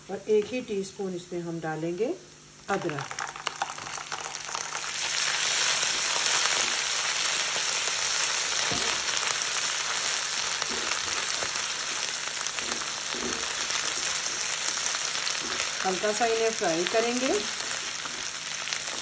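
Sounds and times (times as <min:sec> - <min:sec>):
food sizzling in hot oil: 0:02.3 - 0:19.0.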